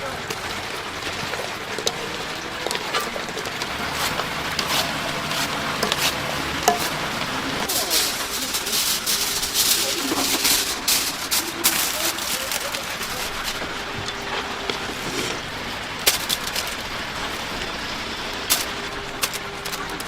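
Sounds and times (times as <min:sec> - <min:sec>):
background voices: 0:00.0 - 0:20.0
chicken deep-frying in oil: 0:00.0 - 0:20.0.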